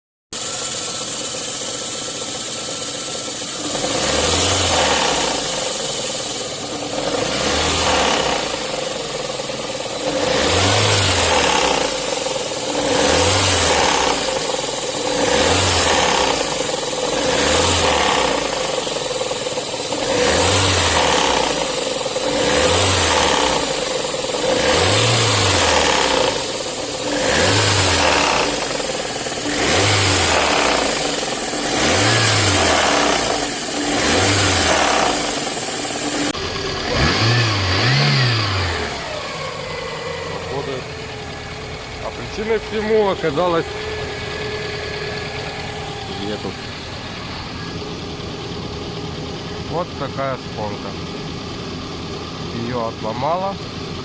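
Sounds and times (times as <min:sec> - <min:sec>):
engine idling and blipped: 0:00.3 - 0:54.0
engine knock: 0:00.3 - 0:54.0.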